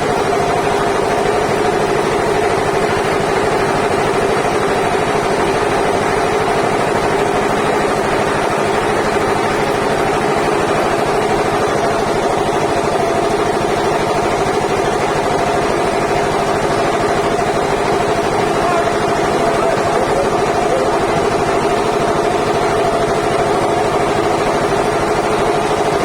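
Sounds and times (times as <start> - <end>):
sawmill machinery humming: 0.0 - 26.0.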